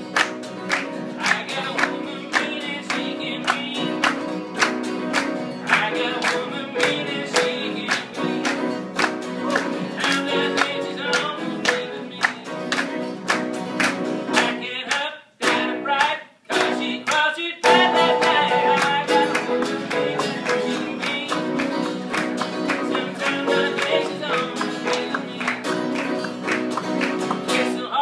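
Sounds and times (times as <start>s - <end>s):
grand piano: 0.0s - 14.6s, 17.6s - 27.8s
strummed acoustic guitar: 0.0s - 14.7s, 15.4s - 28.0s.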